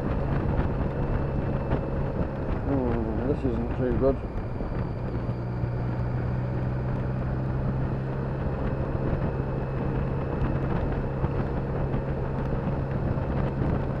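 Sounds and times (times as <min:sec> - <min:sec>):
motorcycle engine running: 0:00.0 - 0:14.0
road noise: 0:00.0 - 0:14.0
wind noise: 0:00.0 - 0:14.0.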